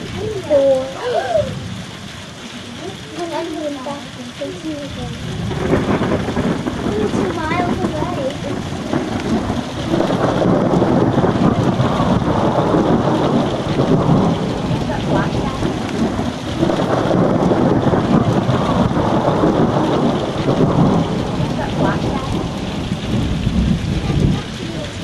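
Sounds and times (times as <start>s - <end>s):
heavy rain: 0.0s - 25.0s
rolling thunder: 0.0s - 25.0s.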